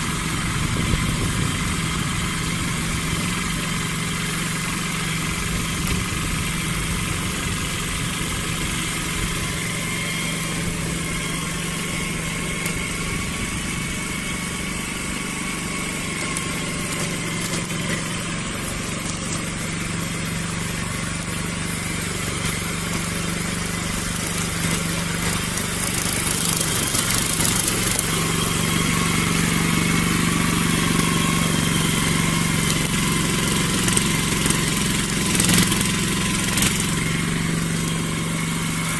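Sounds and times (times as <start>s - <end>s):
grass cutter engine running: 0.0s - 38.9s.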